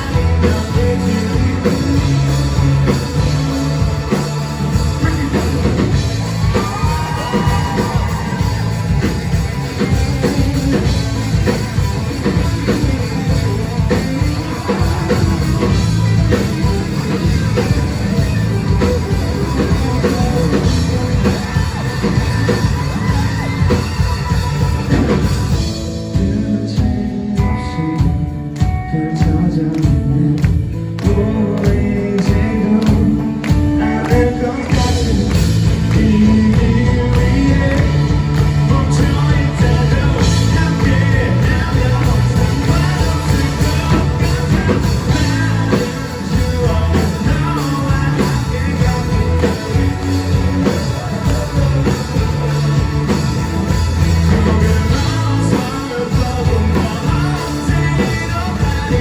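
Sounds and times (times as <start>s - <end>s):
drums keeping a steady beat: 0.0s - 59.0s
live rock band playing: 0.0s - 59.0s
person singing: 0.0s - 59.0s.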